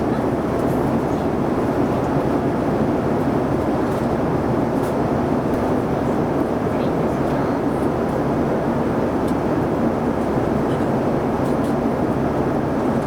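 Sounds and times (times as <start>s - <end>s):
airliner cabin roar: 0.0s - 13.0s.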